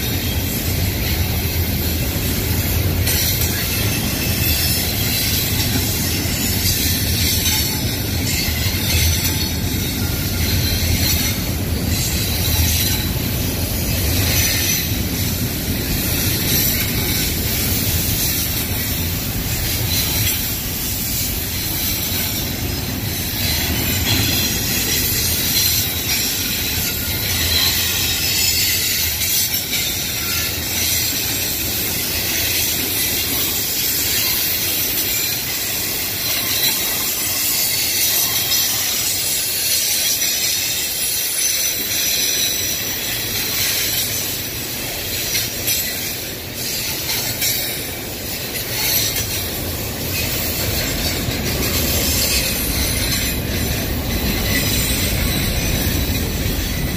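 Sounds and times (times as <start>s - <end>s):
freight train wheels rumbling on rails: 0.0s - 56.9s.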